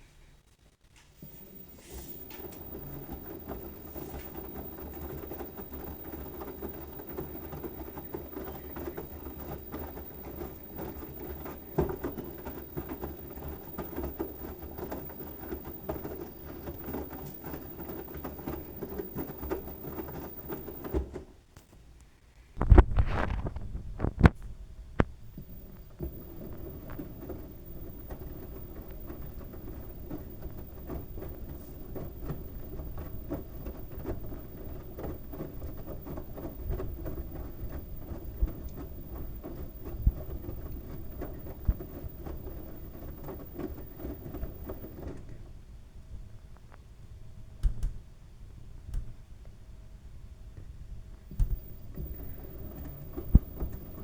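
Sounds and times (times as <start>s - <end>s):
washing machine drum tumbling: 1.2s - 21.5s, 22.6s - 45.4s, 51.3s - 54.0s.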